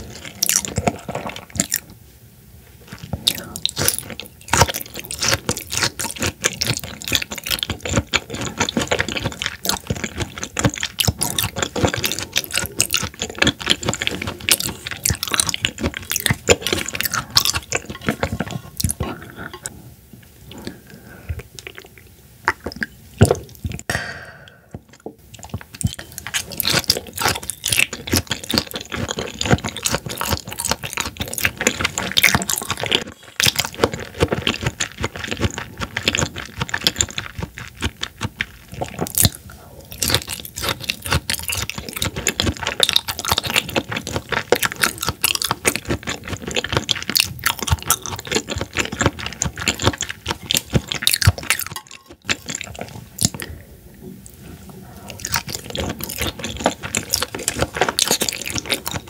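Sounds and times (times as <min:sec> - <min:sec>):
wet chewing: 0:00.0 - 0:02.0, 0:02.8 - 0:19.8, 0:20.4 - 0:59.0.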